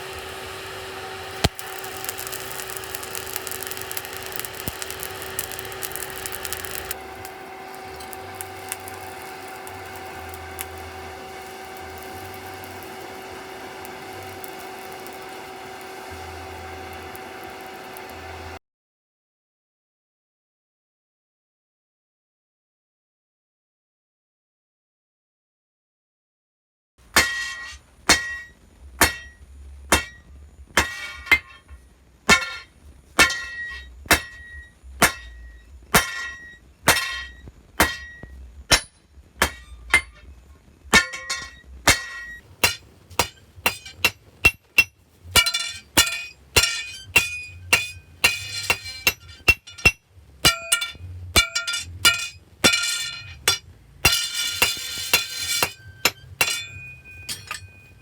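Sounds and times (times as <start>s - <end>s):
hammer striking steel on anvil: 0.9s - 18.6s, 27.1s - 40.3s, 40.9s - 58.0s.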